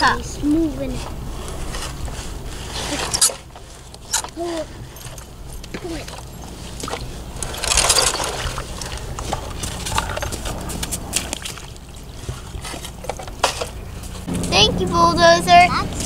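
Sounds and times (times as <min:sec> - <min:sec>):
muddy water splashing: 0:01.9 - 0:16.0.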